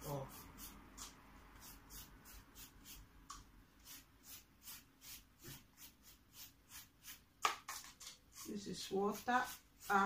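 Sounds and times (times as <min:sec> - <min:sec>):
pastry brush swishing: 0:00.0 - 0:03.1, 0:03.8 - 0:10.0.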